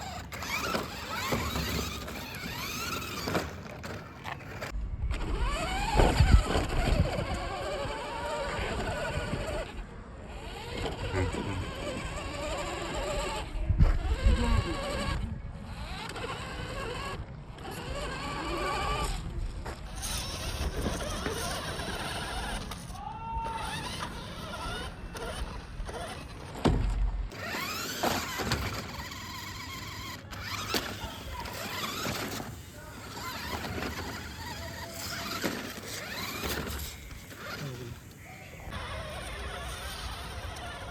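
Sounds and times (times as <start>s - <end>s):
tyres on gravel: 0.0s - 9.7s, 15.7s - 40.9s
electric motor whining: 0.0s - 26.6s, 27.3s - 40.9s.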